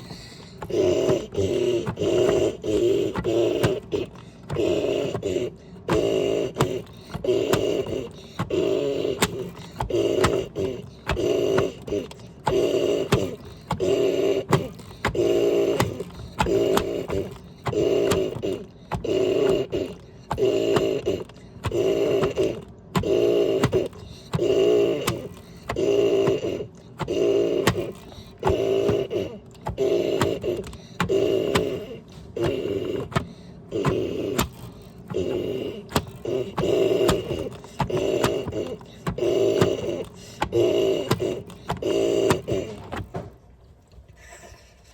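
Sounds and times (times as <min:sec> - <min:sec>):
washing machine whirring: 0:00.0 - 0:44.9.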